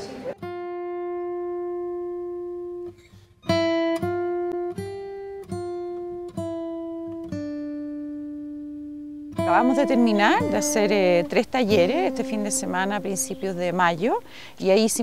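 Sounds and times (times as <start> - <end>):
slow melody of single notes: 0.5 - 14.5.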